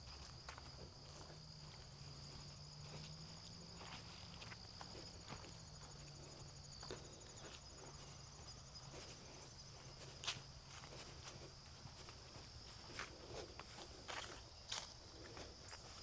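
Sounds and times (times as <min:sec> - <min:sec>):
footsteps on a trail: 0:00.0 - 0:16.0
insects trilling: 0:00.0 - 0:16.0.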